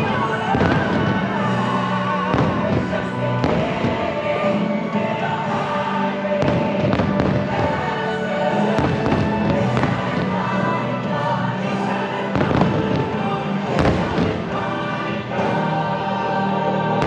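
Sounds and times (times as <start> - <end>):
fireworks bangs: 0.0 - 15.6
soundtrack music: 0.0 - 17.0.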